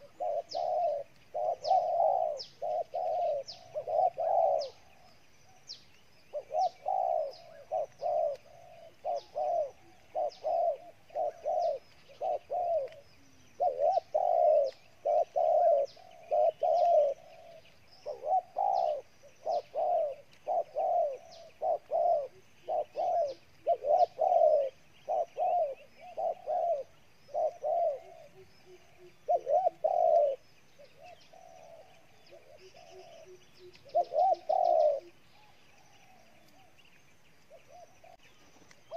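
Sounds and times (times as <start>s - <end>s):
dove cooing: 0.0s - 36.8s, 37.5s - 38.9s
small birds chirping: 0.0s - 38.9s.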